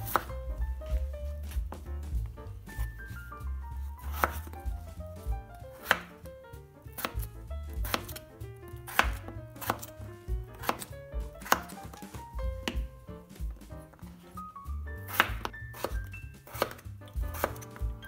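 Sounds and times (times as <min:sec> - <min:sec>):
knife chopping on wooden board: 0:00.0 - 0:02.9, 0:04.0 - 0:06.3, 0:06.9 - 0:14.2, 0:15.0 - 0:18.0.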